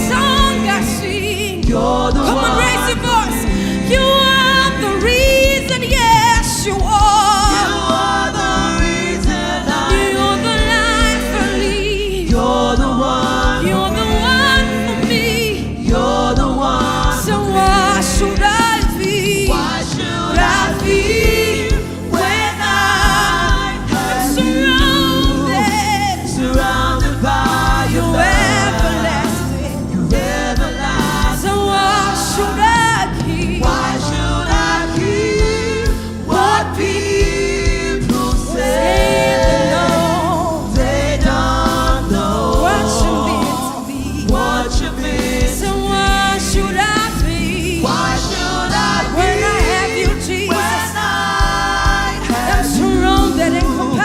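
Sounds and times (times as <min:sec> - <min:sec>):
band with steady beat: 0:00.0 - 0:54.0
voices singing gospel: 0:00.0 - 0:54.0.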